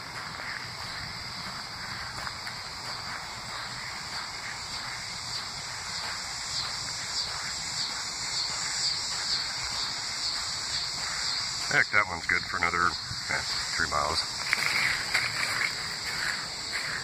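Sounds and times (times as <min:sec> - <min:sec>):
footsteps on muddy path: 0:00.0 - 0:17.0
high insect chorus: 0:00.0 - 0:17.0.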